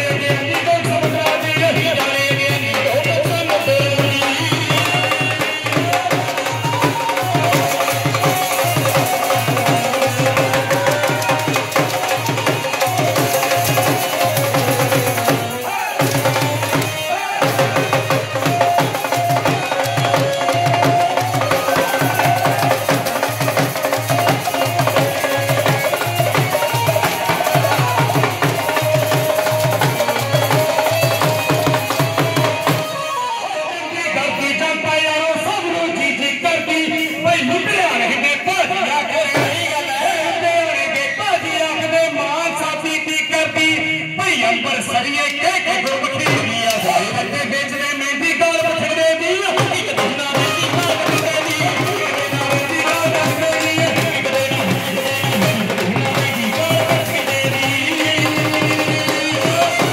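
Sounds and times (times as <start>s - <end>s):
dhol drum beating: 0.0s - 33.4s, 34.2s - 59.9s.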